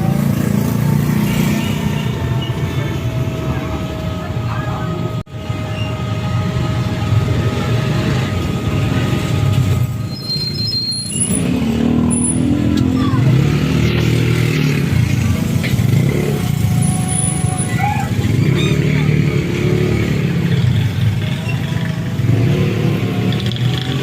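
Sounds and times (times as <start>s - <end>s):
road noise: 0.0s - 24.0s
vehicle engine rumble: 0.0s - 24.0s.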